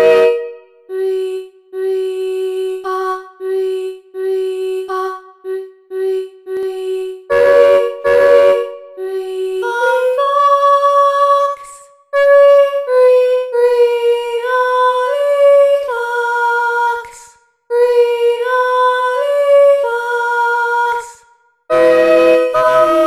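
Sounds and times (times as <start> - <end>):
sampled female voice singing: 0.9 - 23.0.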